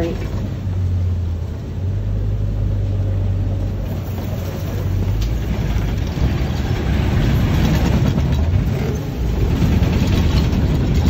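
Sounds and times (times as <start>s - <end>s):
truck engine drone and rumble: 0.0s - 11.0s.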